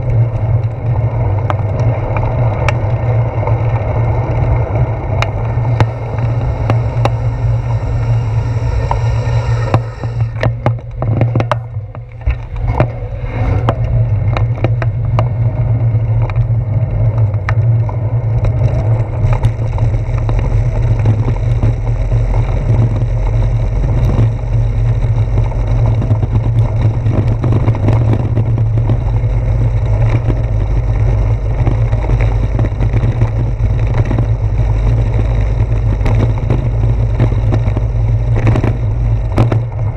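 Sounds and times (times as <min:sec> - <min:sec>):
bicycle rumbling over bricks: 0:00.0 - 0:39.9.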